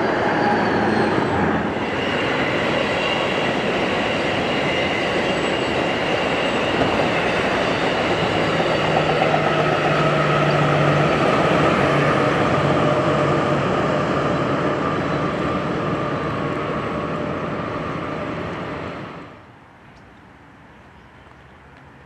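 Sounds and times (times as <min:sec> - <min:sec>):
train wheels rumbling on rails: 0:00.0 - 0:19.4
low locomotive engine hum: 0:00.0 - 0:22.0.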